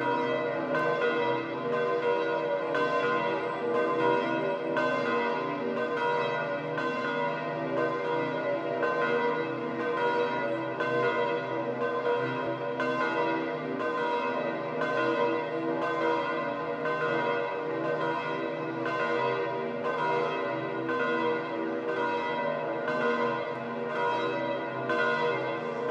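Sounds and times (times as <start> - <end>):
church bells pealing: 0.0 - 25.9.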